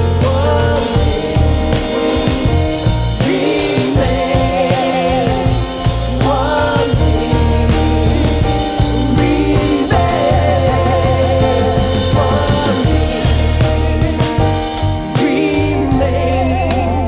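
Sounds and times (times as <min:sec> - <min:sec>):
steady bass notes: 0:00.0 - 0:17.0
worship band playing: 0:00.0 - 0:17.0.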